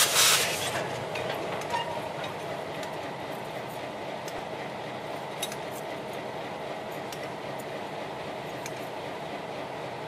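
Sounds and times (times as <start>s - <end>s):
train clatter: 0.0s - 9.4s
train wheels rumbling on rail: 0.0s - 10.0s.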